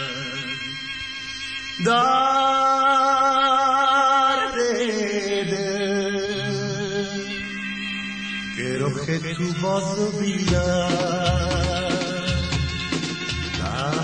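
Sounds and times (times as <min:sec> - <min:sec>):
man singing long wavering notes: 0:00.0 - 0:12.8, 0:13.6 - 0:14.0
pop song accompaniment: 0:00.0 - 0:14.0.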